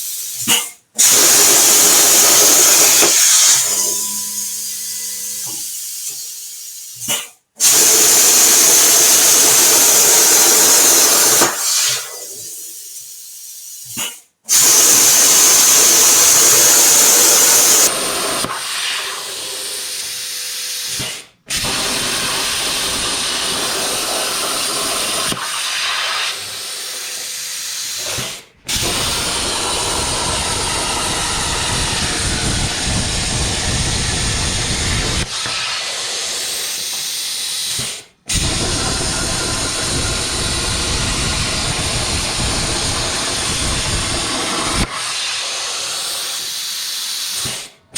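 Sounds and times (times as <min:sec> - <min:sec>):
plasma torch cutting hiss: 0:00.0 - 0:47.7.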